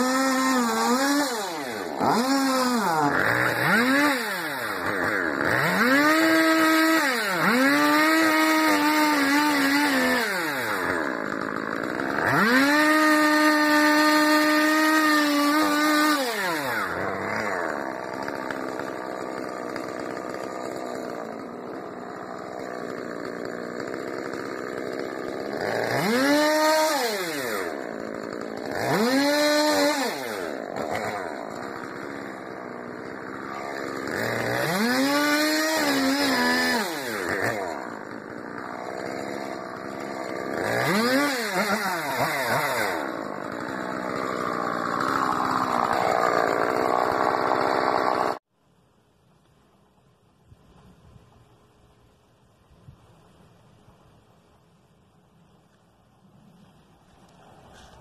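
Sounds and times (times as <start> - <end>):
chainsaw revving and idling: 0.0 - 48.5, 57.1 - 58.0.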